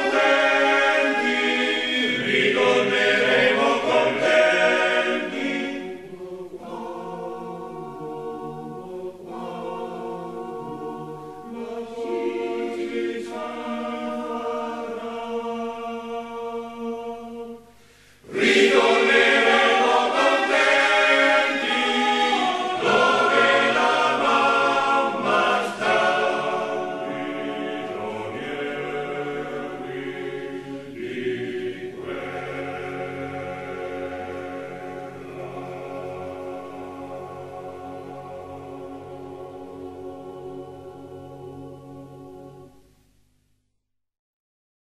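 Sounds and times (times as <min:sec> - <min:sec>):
choir singing in sustained chords: 0:00.0 - 0:43.6.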